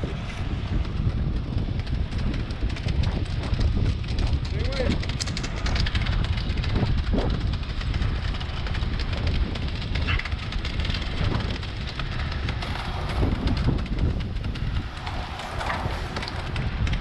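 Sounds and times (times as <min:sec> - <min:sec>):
heavy construction machinery running: 0:00.0 - 0:17.0
wind rumbling on microphone: 0:00.0 - 0:17.0.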